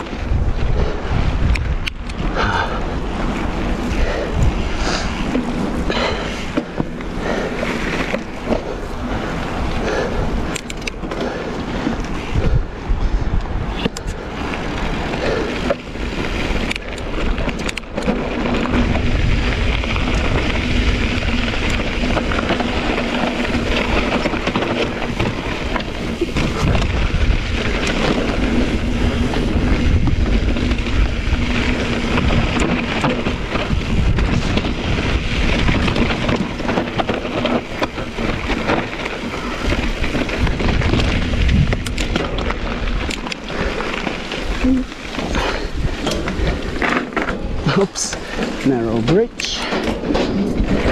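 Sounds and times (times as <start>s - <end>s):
bike rattling over bumps: 0.0s - 50.9s
tyres rolling over gravel: 0.0s - 50.9s
wind buffeting microphone: 0.0s - 50.9s.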